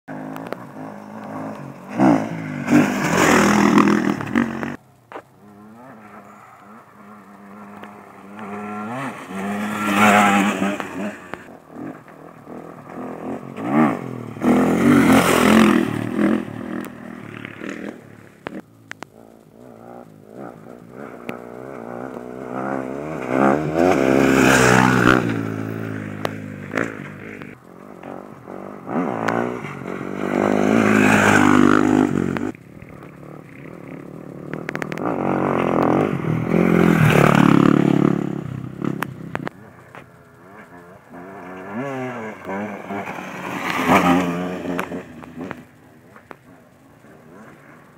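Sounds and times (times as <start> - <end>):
dirt bikes revving past: 0.1 - 47.9.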